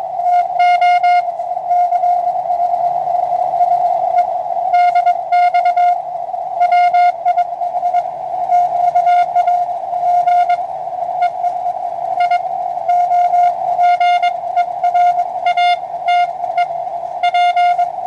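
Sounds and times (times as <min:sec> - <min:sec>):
morse code tone: 0:00.0 - 0:18.0
receiver hiss: 0:00.0 - 0:18.0.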